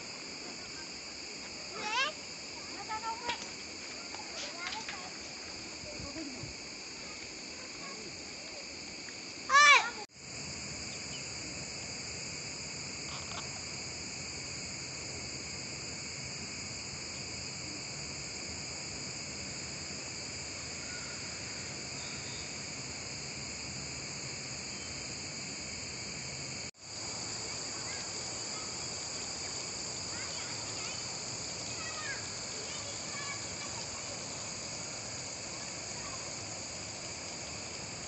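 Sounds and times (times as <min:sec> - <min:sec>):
insects droning in trees: 0:00.0 - 0:38.0.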